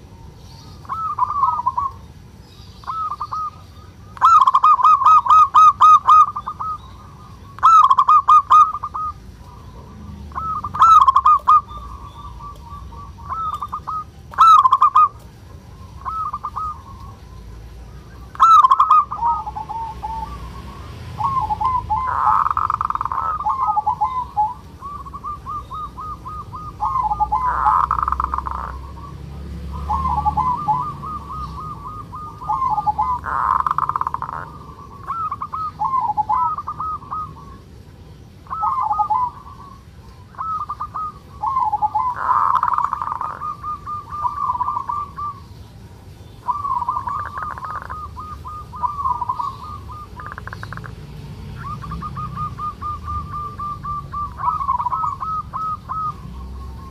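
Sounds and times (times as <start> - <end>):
dove cooing: 0.0 - 45.6, 46.4 - 56.9.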